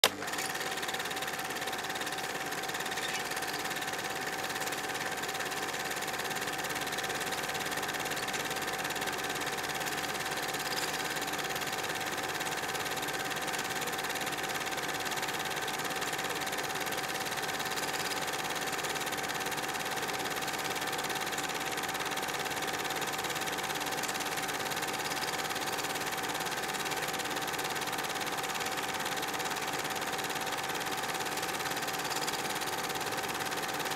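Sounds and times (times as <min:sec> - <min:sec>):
film projector whirring: 0:00.0 - 0:33.9.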